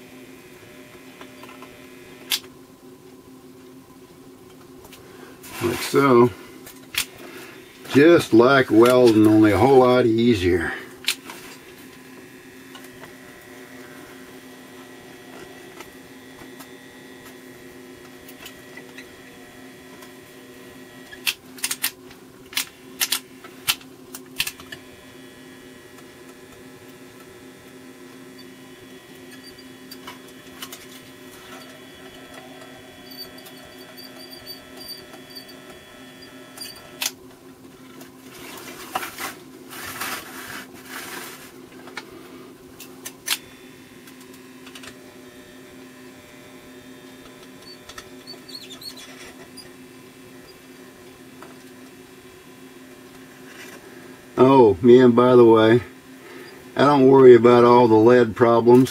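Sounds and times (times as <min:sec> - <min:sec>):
soldering gun humming: 0:00.0 - 0:57.8.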